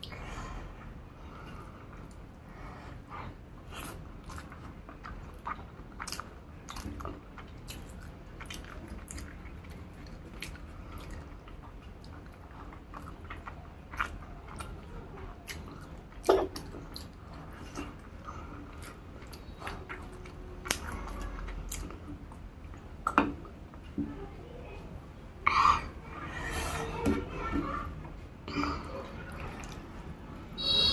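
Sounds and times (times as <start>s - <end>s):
person chewing food: 0.0s - 24.0s, 25.4s - 30.9s.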